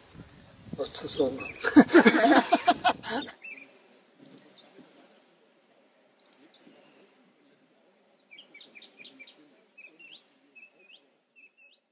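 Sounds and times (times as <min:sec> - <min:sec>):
faint birdsong: 0:00.0 - 0:11.9
faint outdoor background: 0:00.0 - 0:11.9.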